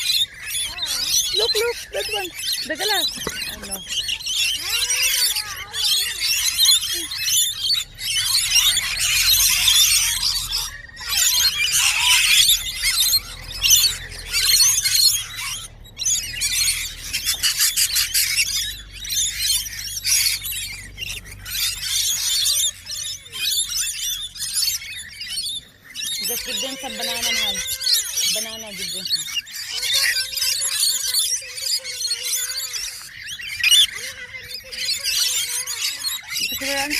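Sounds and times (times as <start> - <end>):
flock of birds chattering: 0.0 - 36.9.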